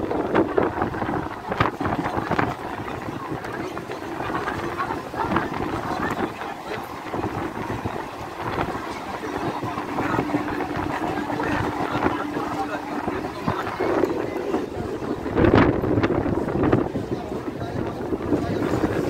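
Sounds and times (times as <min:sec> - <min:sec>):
steady hum: 0:00.0 - 0:16.6
train coach rattling over track: 0:00.0 - 0:19.0.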